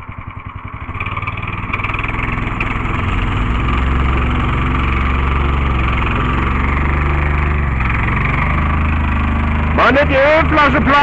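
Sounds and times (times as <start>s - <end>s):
small petrol engine running: 0.0s - 11.0s.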